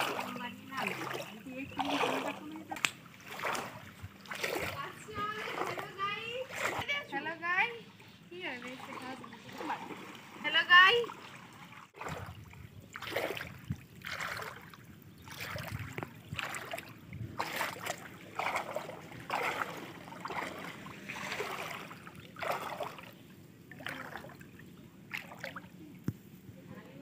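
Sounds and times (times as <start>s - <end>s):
feet sloshing through water: 0.0s - 7.3s, 7.9s - 26.0s.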